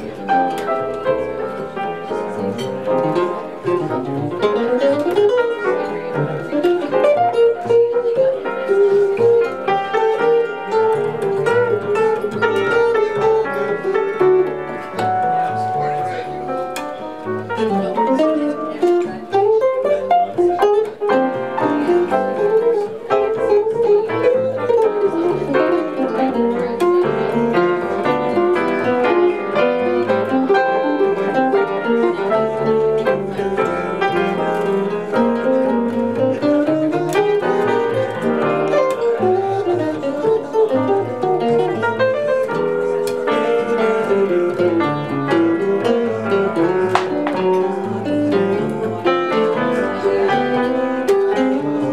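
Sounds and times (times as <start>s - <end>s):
jazz guitar: 0.0s - 51.9s
piano: 0.0s - 51.9s
plucked upright bass: 0.0s - 51.9s.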